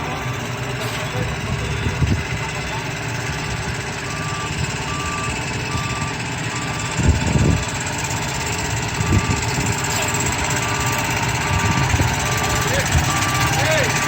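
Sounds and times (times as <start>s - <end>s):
wind buffeting microphone: 0.0s - 13.6s
truck engine running: 0.0s - 14.0s
truck reversing alarm beeping: 0.0s - 14.0s.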